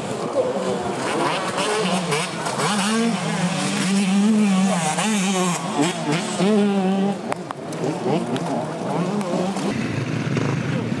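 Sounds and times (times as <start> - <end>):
dirt bike engine revving: 0.7 - 11.0.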